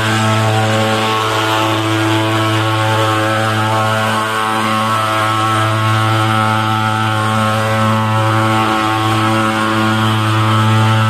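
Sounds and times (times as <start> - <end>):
fogging machine buzzing drone: 0.0 - 11.0.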